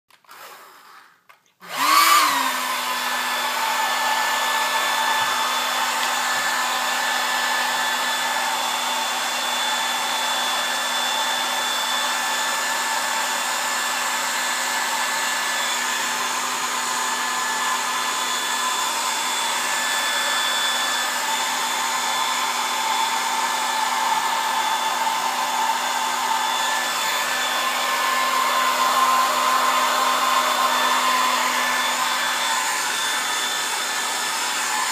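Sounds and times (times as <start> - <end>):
hair dryer running: 0.2 - 34.9.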